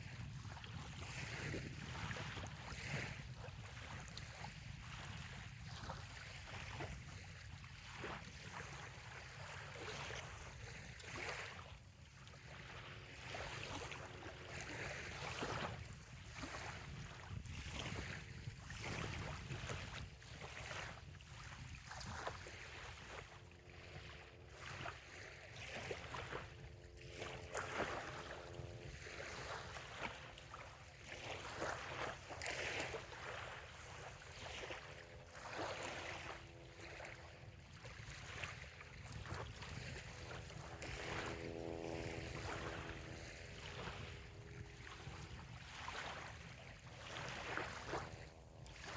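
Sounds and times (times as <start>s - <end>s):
small waves lapping on sand: 0.0s - 48.9s.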